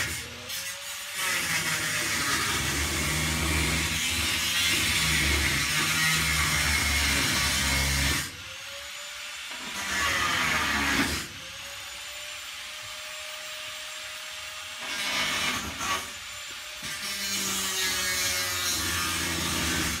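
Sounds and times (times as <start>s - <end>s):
angle grinder grinding: 0.0s - 20.0s.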